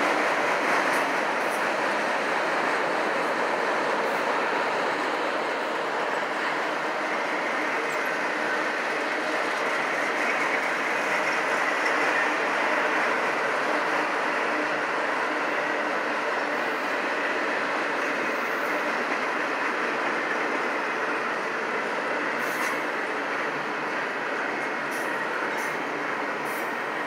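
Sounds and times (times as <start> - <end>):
steel wheels rolling on rails: 0.0 - 27.0.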